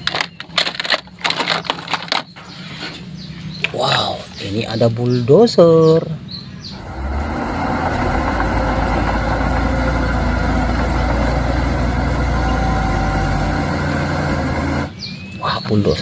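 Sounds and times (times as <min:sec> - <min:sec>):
bulldozer diesel engine running: 0:00.0 - 0:15.9.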